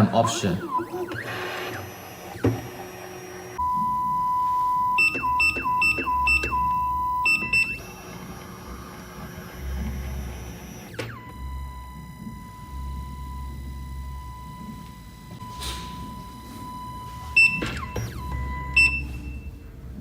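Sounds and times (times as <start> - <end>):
steady electronic tone: 0.0 - 19.7.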